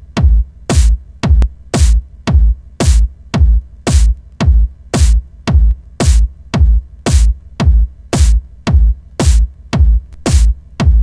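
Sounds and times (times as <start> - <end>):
deep kick drum: 0.0 - 11.0
electronic dance music: 0.1 - 11.0.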